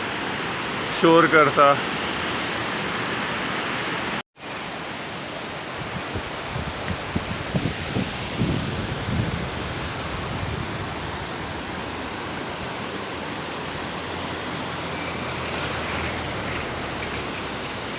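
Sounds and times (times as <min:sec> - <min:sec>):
river rushing: 0:00.0 - 0:17.9.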